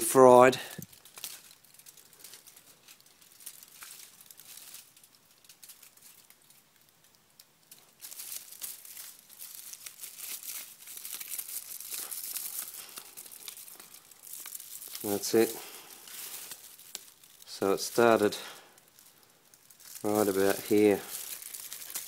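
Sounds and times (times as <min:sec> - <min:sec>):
metal foil crinkling: 0:00.0 - 0:22.0.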